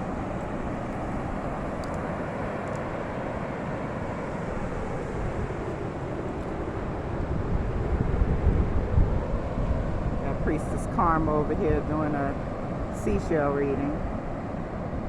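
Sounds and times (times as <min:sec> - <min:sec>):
rushing outdoor noise with rumble: 0:00.0 - 0:15.0.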